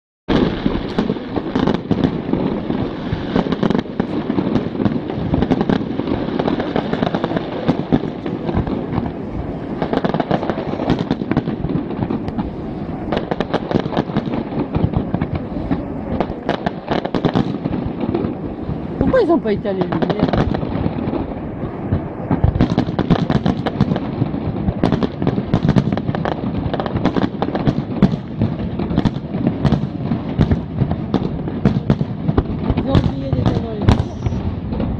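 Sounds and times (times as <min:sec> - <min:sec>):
fireworks bangs and crackles: 0:00.3 - 0:34.9.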